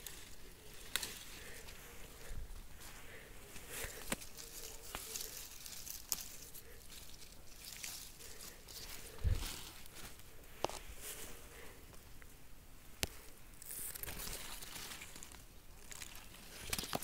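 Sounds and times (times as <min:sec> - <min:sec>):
plant leaves rustling: 0:00.0 - 0:12.2, 0:12.9 - 0:17.0.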